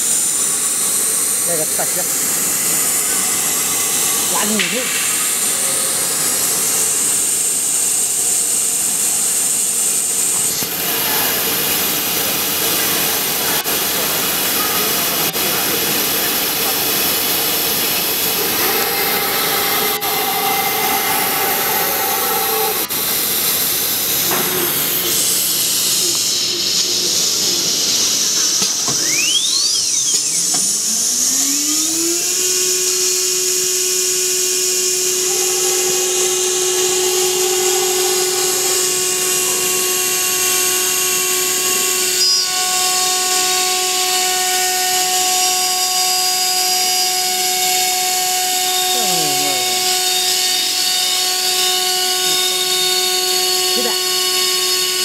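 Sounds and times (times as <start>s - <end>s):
router spindle whining: 0.0s - 55.0s.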